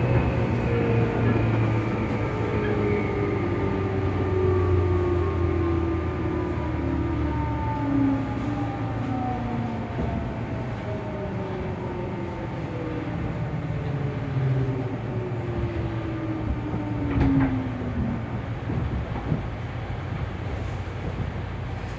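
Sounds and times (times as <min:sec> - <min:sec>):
wheels rumbling on track: 0:00.0 - 0:21.9.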